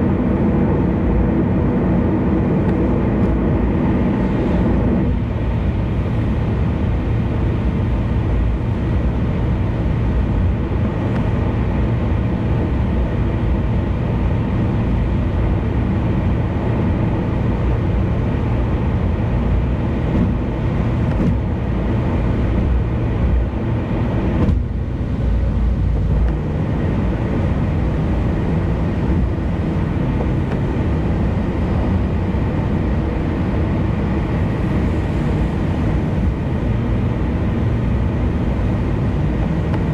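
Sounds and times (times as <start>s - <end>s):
low engine hum: 0.0s - 39.9s
road and tyre noise: 0.0s - 39.9s.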